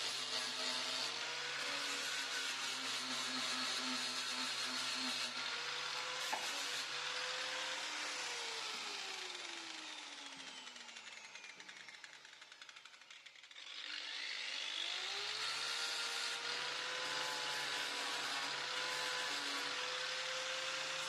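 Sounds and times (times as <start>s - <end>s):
power tool motor whine: 0.0s - 21.0s.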